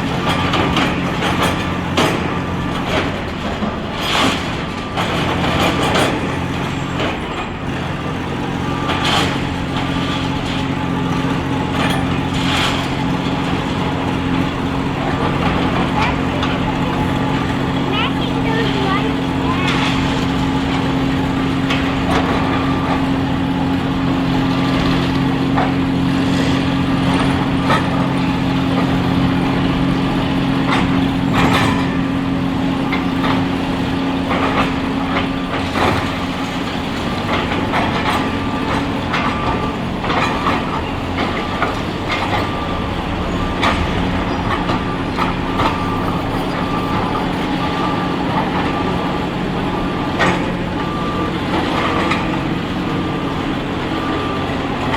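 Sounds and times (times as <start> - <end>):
excavator diesel engines: 0.0 - 54.9
reversing alarm beeping: 8.0 - 54.9.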